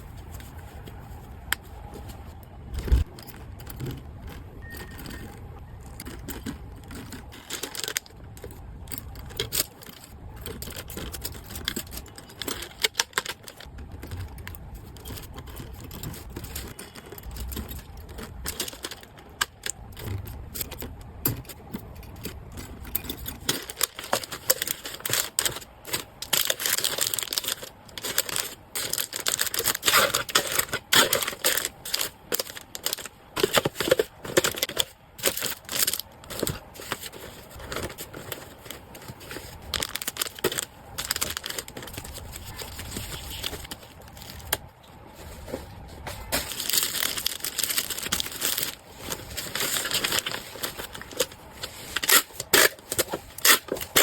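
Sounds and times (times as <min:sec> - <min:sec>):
packaging crinkling and rustling: 0:00.0 - 0:54.0.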